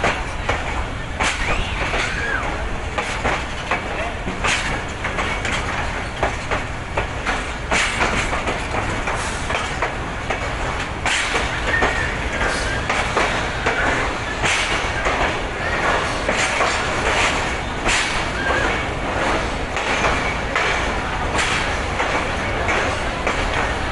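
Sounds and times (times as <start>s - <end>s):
train rumble: 0.0s - 23.9s
train wheels clattering over rail joints: 0.0s - 23.9s.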